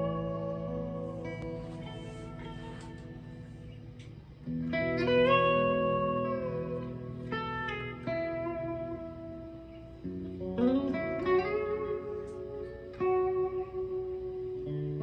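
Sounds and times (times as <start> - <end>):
electric guitar through an amp: 0.0 - 15.0.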